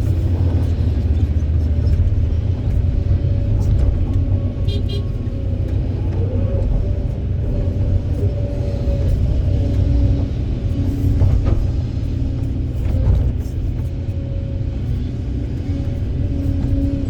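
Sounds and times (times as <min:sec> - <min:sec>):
excavator engine rumbling: 0:00.0 - 0:17.0.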